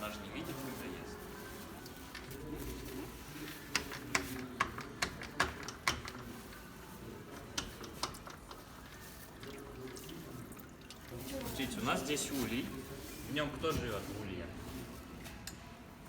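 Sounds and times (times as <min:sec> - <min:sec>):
faint background voices: 0:00.0 - 0:16.0.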